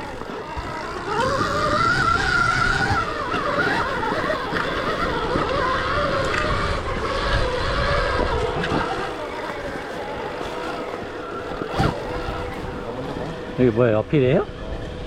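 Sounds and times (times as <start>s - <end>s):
electric motorbike motor whine: 0.0s - 15.0s.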